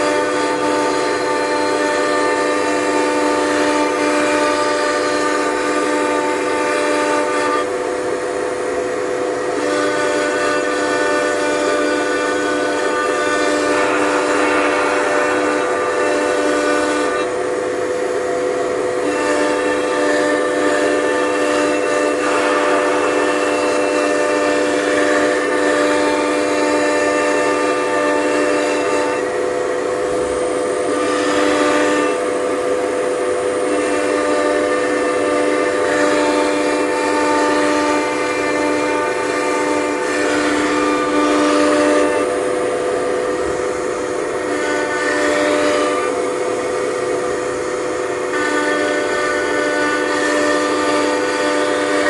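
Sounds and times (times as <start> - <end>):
cnc router machine whine: 0.0 - 52.0.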